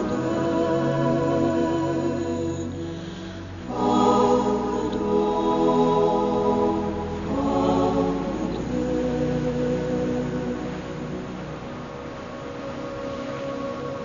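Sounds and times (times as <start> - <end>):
slow music of held chords: 0.0 - 14.0.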